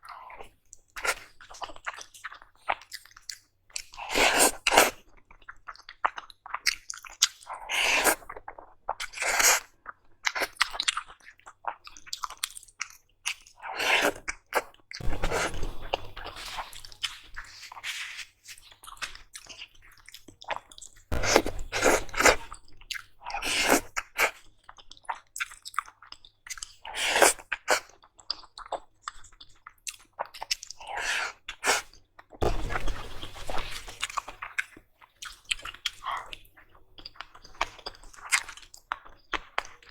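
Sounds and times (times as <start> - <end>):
mouth chewing crunchy food: 0.0 - 39.9.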